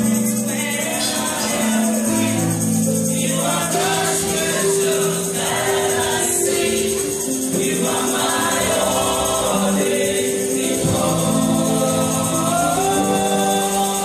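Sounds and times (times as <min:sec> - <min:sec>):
choir singing worship song: 0:00.0 - 0:14.0
tambourine jingling: 0:00.0 - 0:14.0.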